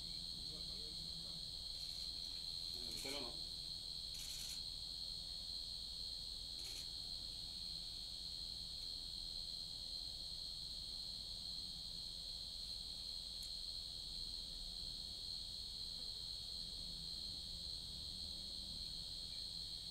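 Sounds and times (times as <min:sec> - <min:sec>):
high-pitched insect chorus: 0:00.0 - 0:19.9.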